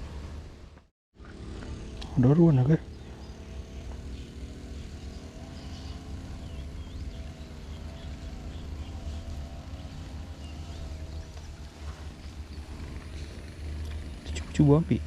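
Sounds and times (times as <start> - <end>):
distant motor humming: 0.0 - 15.0.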